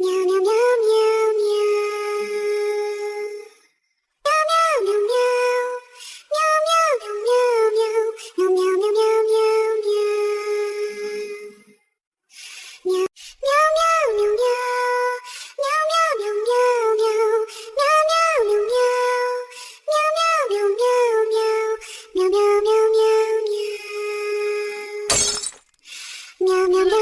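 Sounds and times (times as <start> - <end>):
synthetic child-like singing voice: 0.0 - 3.6, 4.2 - 11.8, 12.8 - 25.1, 26.3 - 27.0.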